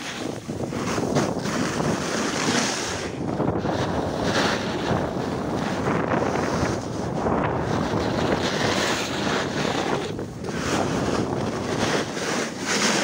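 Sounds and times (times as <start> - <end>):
skis carving on snow: 0.0 - 13.0
wind buffeting microphone: 0.0 - 13.0.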